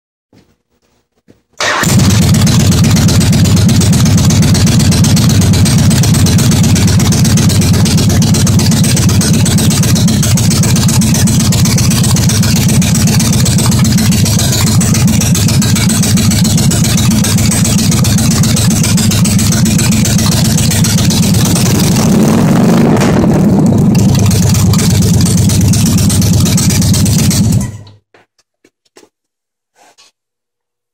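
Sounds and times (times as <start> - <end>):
motorcycle engine running loudly: 1.6 - 28.0.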